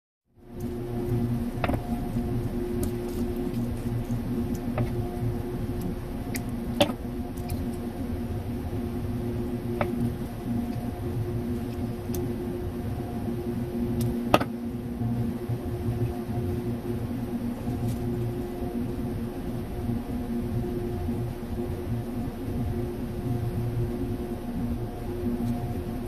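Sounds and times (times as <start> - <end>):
steady machine hum: 0.3 - 26.0.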